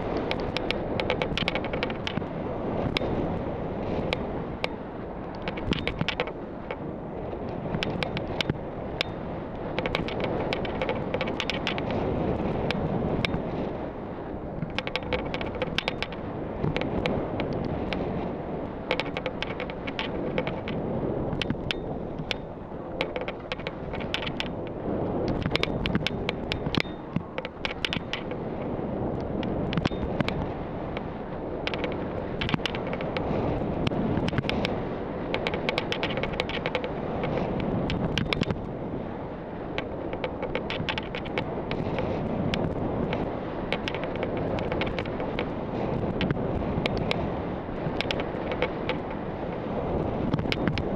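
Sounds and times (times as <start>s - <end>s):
sharp crackling clicks: 0.0s - 6.8s, 7.4s - 13.8s, 14.5s - 50.9s
wind on microphone: 0.0s - 50.9s.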